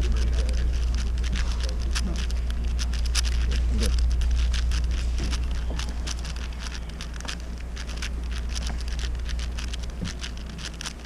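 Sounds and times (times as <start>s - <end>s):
puzzle cube layers clicking: 0.0s - 11.0s
steady low hum: 0.0s - 11.0s.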